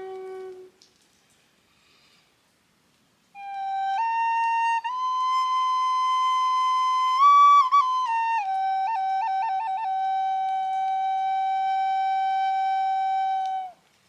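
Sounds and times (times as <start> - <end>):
flute playing slow melody: 0.0 - 0.9, 3.4 - 13.9.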